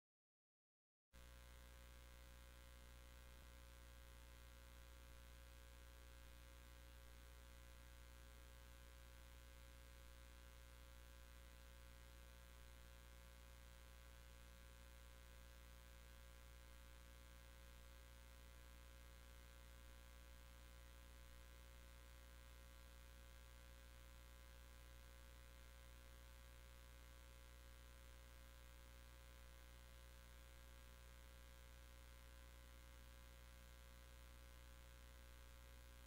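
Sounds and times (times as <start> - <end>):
faint mains hum: 1.2 - 36.0.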